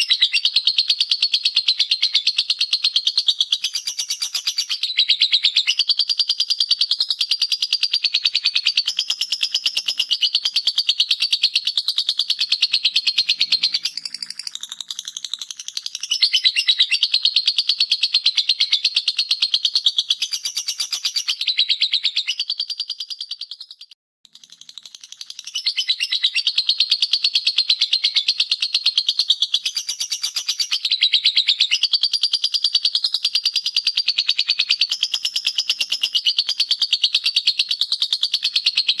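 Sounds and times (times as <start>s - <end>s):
bird chattering song: 0.0s - 39.0s.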